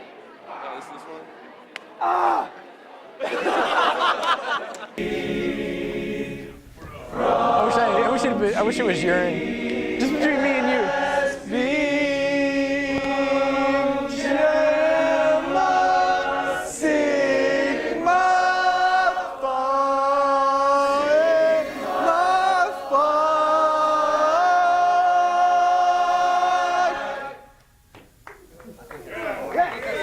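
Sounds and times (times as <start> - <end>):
group singing unaccompanied: 3.3 - 27.6.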